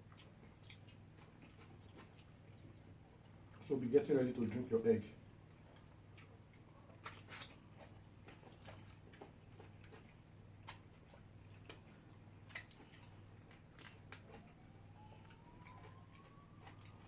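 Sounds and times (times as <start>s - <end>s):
chewing with sharp clicks: 0.0s - 3.7s, 5.4s - 17.0s
low steady hum: 0.0s - 17.0s.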